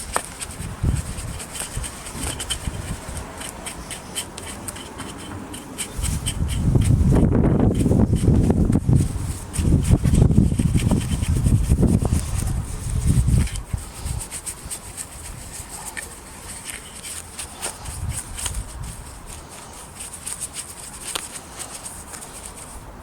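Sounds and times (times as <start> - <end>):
rubbing on wooden surface: 0.0 - 22.8.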